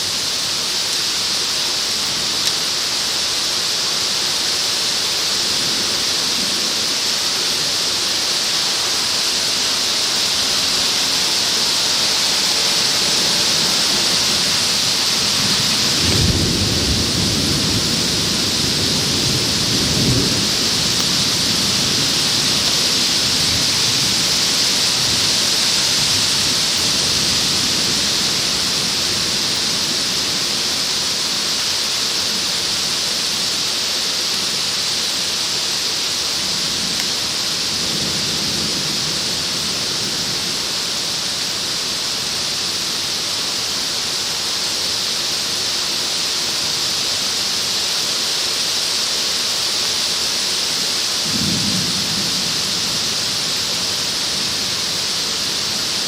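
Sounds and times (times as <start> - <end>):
torrential rain hissing: 0.0 - 56.0.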